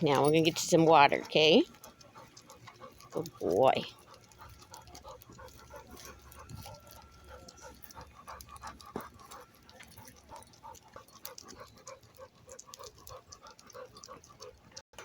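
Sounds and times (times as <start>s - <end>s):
dog panting: 0.0s - 14.8s.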